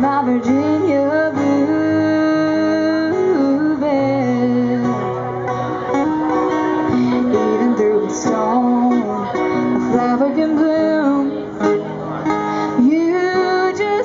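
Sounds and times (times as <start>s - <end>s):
woman singing: 0.0s - 5.3s, 7.0s - 11.9s, 12.7s - 14.0s
acoustic guitars strummed: 0.0s - 14.0s.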